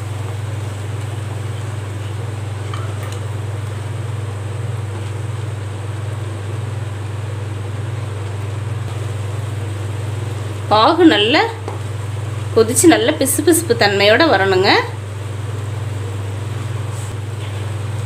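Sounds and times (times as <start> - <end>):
cooktop fan hum: 0.0 - 18.0.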